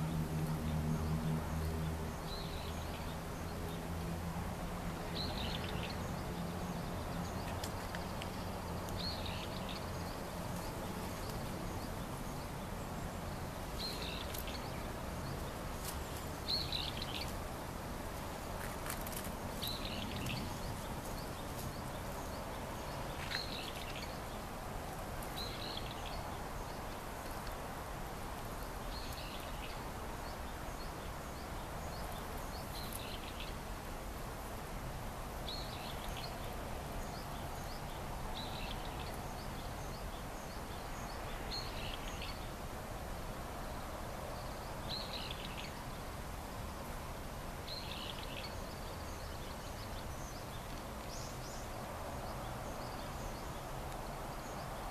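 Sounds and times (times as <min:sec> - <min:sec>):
outdoor background noise: 0:00.0 - 0:54.9.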